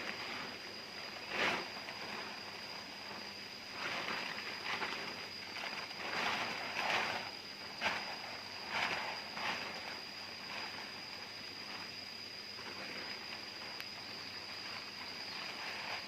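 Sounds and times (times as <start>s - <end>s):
rustling and scraping: 0.0s - 12.0s, 12.6s - 16.0s.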